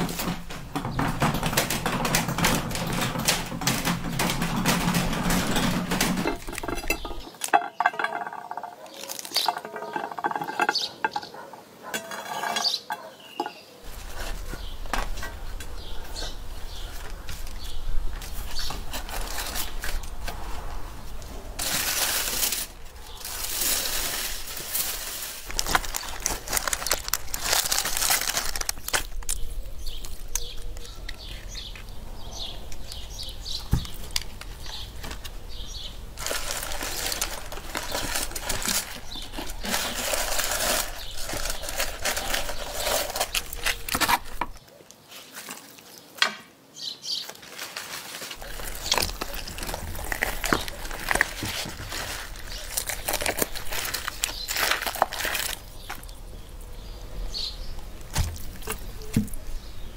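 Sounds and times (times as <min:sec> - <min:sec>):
aluminium foil crinkling: 0:00.0 - 0:20.6, 0:21.5 - 0:31.8, 0:36.2 - 0:46.2, 0:47.2 - 0:56.5.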